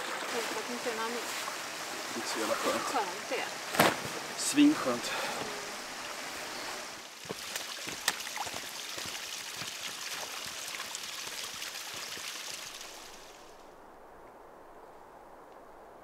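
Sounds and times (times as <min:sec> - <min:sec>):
stream rushing: 0:00.0 - 0:13.8.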